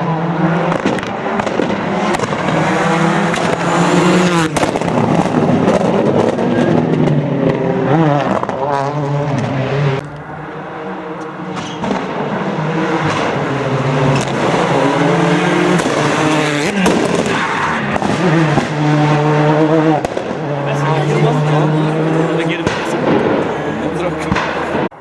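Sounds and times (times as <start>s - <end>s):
rally car engine revving: 0.0s - 25.0s
sharp exhaust pops: 0.6s - 20.9s, 22.1s - 25.0s.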